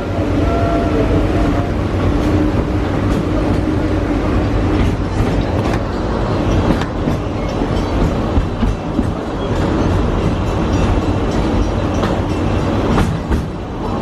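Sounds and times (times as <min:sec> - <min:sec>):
train carriages rumbling: 0:00.0 - 0:14.0.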